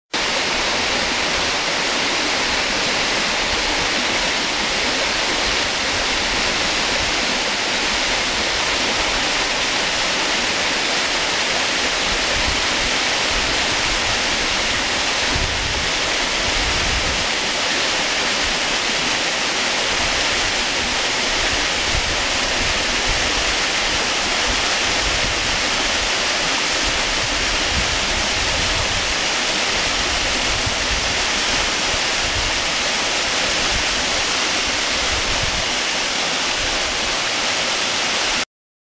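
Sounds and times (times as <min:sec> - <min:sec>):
waterfall rushing: 0:00.2 - 0:38.5.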